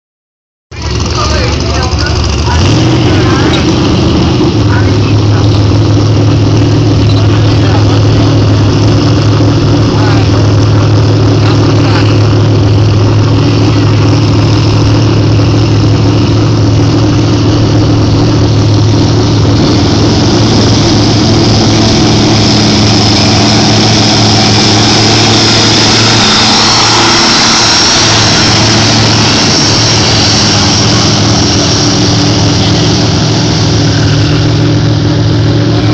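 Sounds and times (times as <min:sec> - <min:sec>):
tractor engine running under load: 0:00.7 - 0:35.9.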